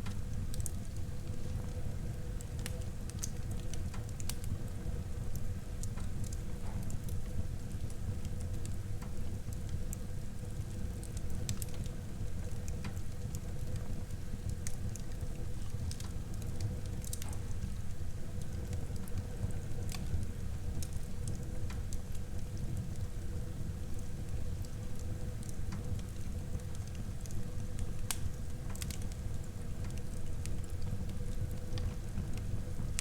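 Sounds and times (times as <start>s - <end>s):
fire crackles and pops: 0.0s - 33.0s
low rumble of flames: 0.0s - 33.0s.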